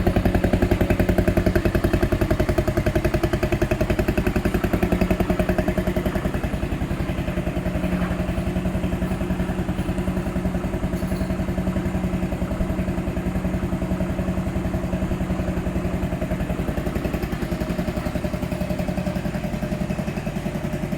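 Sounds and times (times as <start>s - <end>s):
scooter engine idling: 0.0s - 20.9s.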